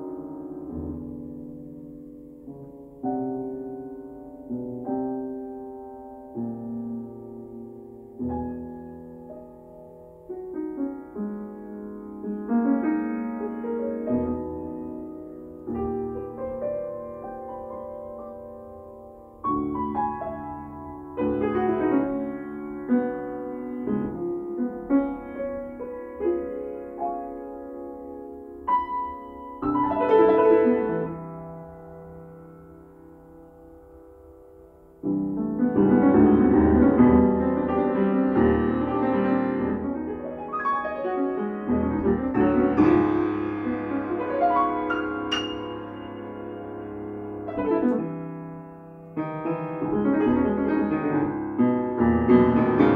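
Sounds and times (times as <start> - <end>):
grand piano playing: 0.0 - 52.9.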